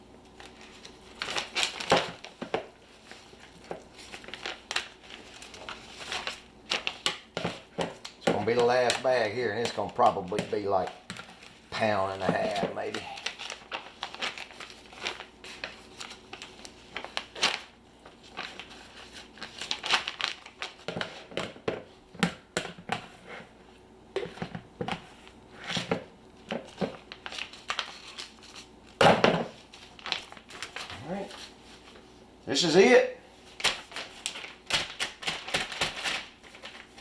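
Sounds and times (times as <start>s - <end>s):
plastic bag crinkling: 0.2s - 21.4s, 24.2s - 32.1s, 33.4s - 37.0s.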